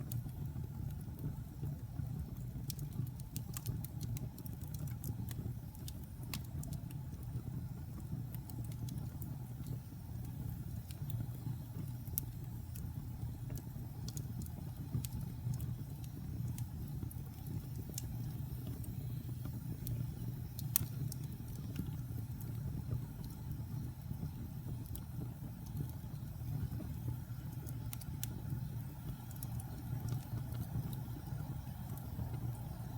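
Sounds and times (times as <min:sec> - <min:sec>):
crackles and pops of fire: 0:00.0 - 0:32.9
fire burning in fireplace: 0:00.0 - 0:32.9.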